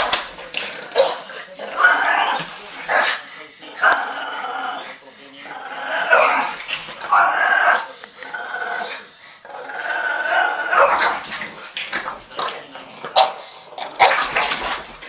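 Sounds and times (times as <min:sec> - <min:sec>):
dogs growling in play: 0:00.0 - 0:15.0.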